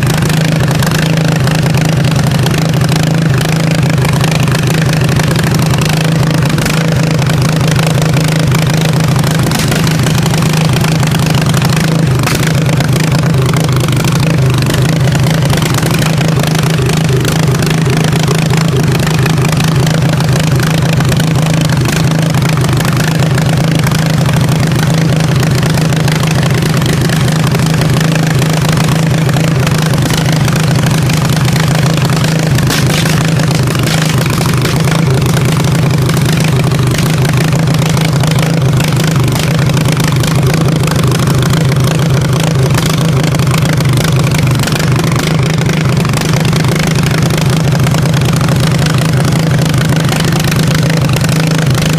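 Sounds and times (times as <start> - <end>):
riding lawn mower engine running: 0.0 - 51.9.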